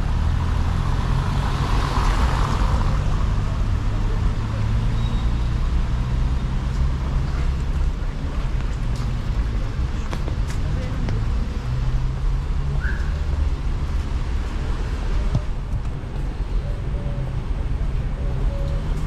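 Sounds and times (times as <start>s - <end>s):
traffic engine rumble: 0.0s - 19.0s.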